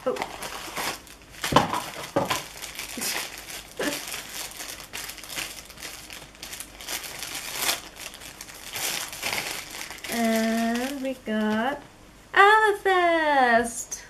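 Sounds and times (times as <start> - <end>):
packaging crinkling: 0.0 - 11.8.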